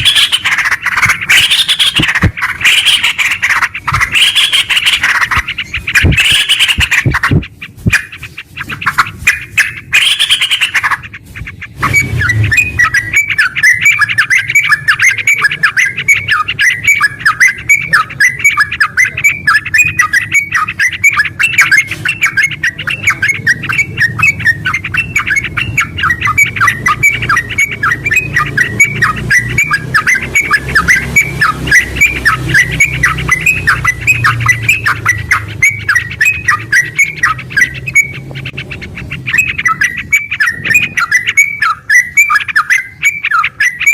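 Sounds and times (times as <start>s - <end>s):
bird singing rapid chattering notes: 0.0s - 43.9s.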